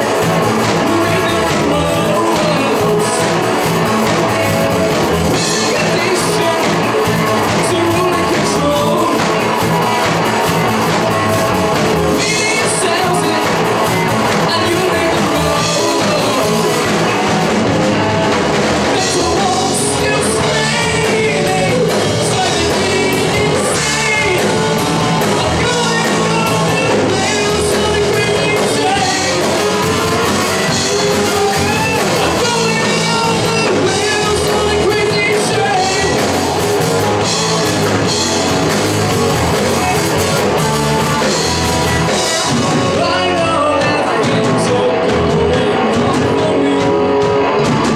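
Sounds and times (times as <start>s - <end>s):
bass: 0.0s - 47.9s
drum kit: 0.0s - 47.9s
electric guitar: 0.0s - 47.9s
person singing: 0.0s - 47.9s.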